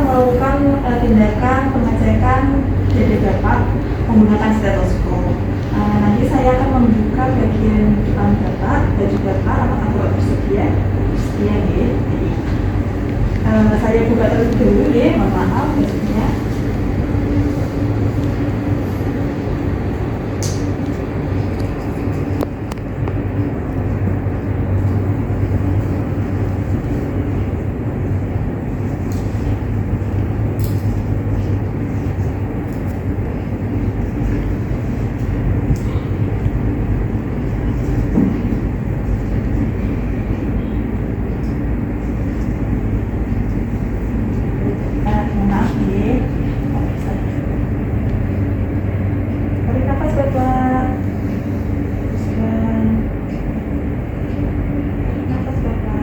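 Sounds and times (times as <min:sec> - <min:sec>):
faint low hum: 0:00.0 - 0:56.0
steady rumbling: 0:00.0 - 0:56.0.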